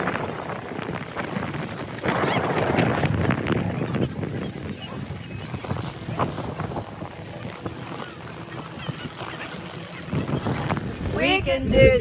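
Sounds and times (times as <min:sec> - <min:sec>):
beach ambience: 0:00.0 - 0:12.0
wind on microphone: 0:00.0 - 0:12.0.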